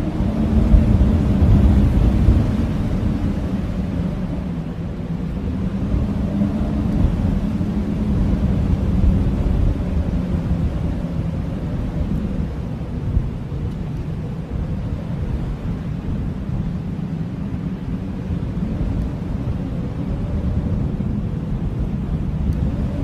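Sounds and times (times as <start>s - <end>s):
blizzard wind rumbling: 0.0s - 23.0s.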